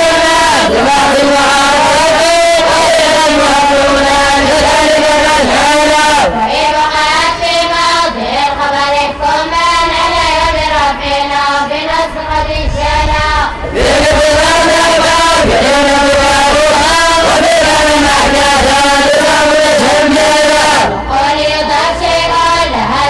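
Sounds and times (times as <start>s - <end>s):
boys and men chanting in unison: 0.0s - 23.0s.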